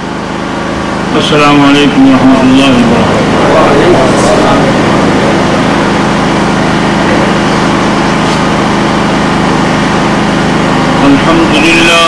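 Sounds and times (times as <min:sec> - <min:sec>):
engine-like drone: 0:00.0 - 0:12.0.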